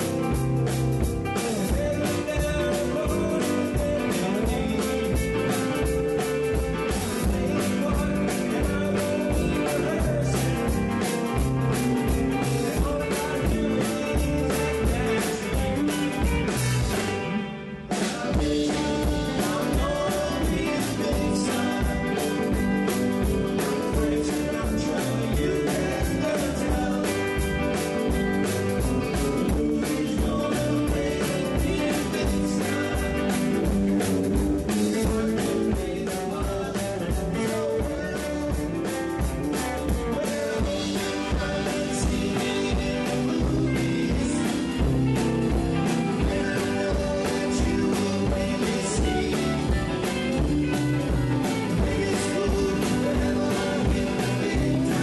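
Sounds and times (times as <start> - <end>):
rock and roll music: 0.0 - 55.0.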